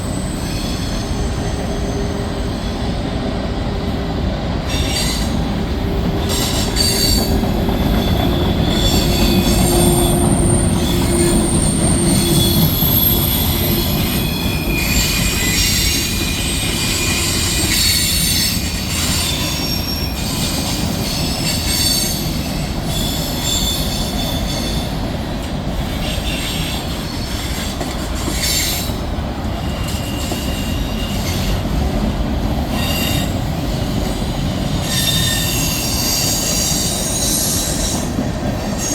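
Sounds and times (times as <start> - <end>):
freight train rumbling: 0.0 - 38.9
train wheels squealing: 0.0 - 38.9.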